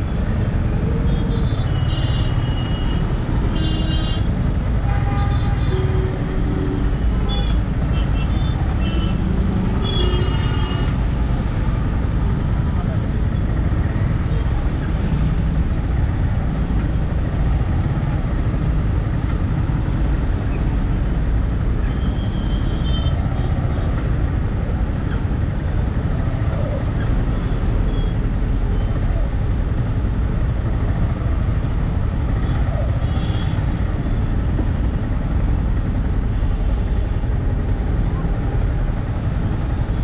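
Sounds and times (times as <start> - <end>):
engines and road traffic rumble: 0.0 - 40.0.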